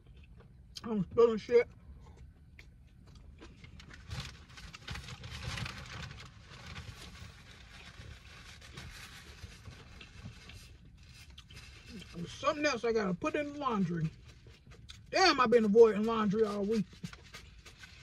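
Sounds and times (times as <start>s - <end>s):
eating and wrapper rustling: 2.0s - 12.4s, 13.8s - 18.0s.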